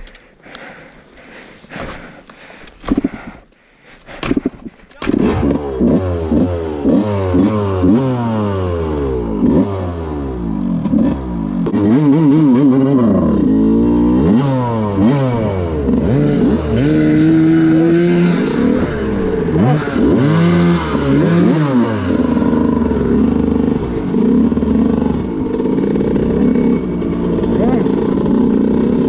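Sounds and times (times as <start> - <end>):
dirt bike engine revving: 4.2 - 29.0.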